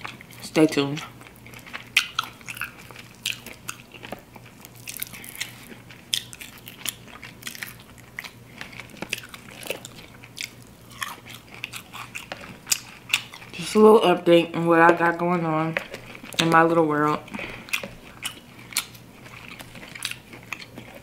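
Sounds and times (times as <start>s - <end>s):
person chewing crispy food: 0.0s - 13.9s, 15.0s - 21.0s.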